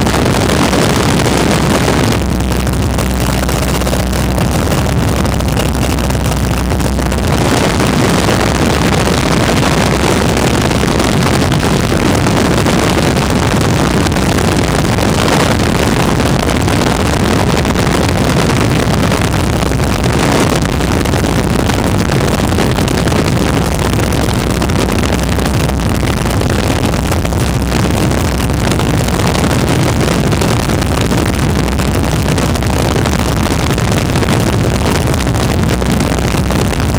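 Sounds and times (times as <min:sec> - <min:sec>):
biplane engine drone: 0:00.0 - 0:36.9
wind rushing over microphone: 0:00.0 - 0:36.9.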